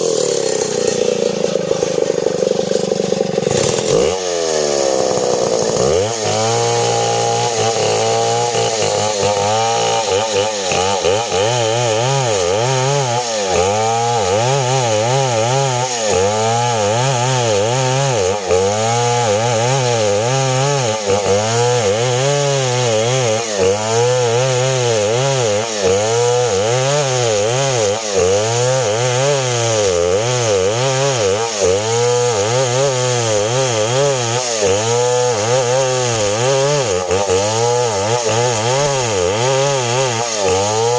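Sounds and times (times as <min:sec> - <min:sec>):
chainsaw sawing log: 0:00.0 - 0:40.9.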